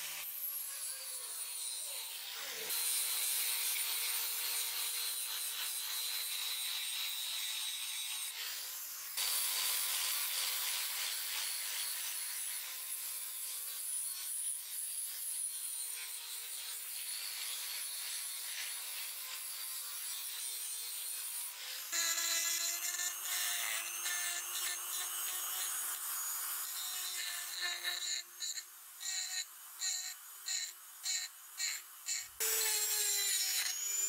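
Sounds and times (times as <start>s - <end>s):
angle grinder grinding steel: 0.0s - 34.0s.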